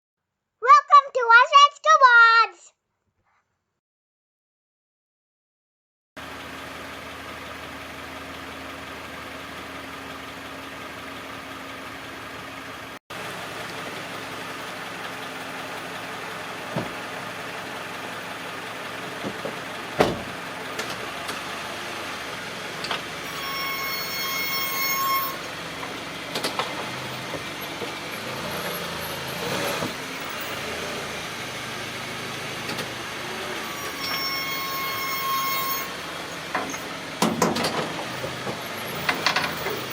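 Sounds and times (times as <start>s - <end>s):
vehicle running: 6.2s - 39.9s
brakes squealing: 6.3s - 39.9s.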